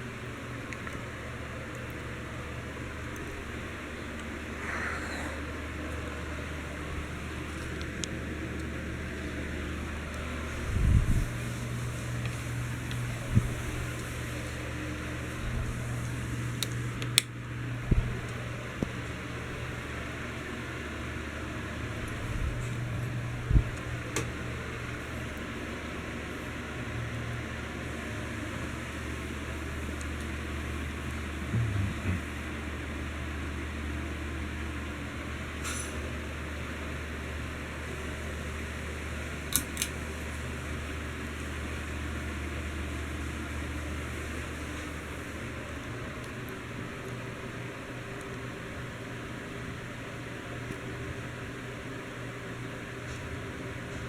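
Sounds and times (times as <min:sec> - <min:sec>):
ceiling fan running: 0:00.0 - 0:54.0.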